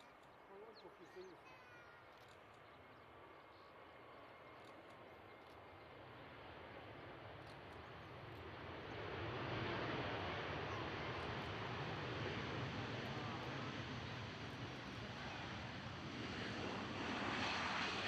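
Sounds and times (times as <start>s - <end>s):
airliner jet engines rushing: 3.2s - 18.0s.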